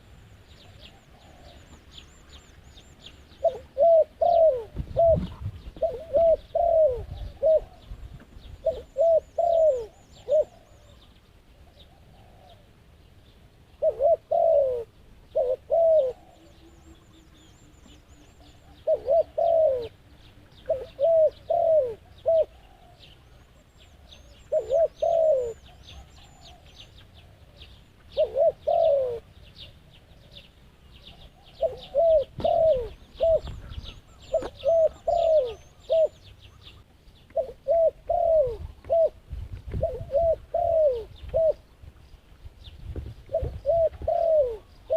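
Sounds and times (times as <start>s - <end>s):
small birds chirping: 0.0s - 44.9s
doves cooing: 0.6s - 12.9s, 13.8s - 41.8s, 43.0s - 44.9s.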